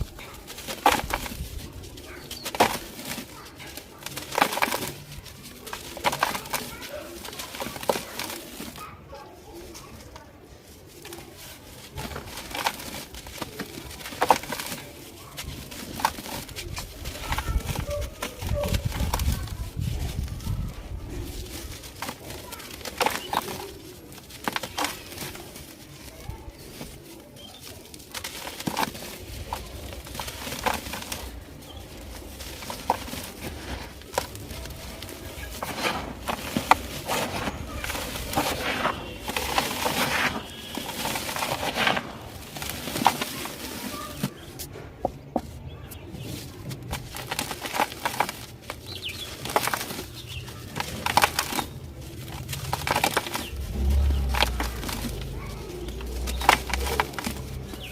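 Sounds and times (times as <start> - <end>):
dry material crunching: 0.0 - 57.9.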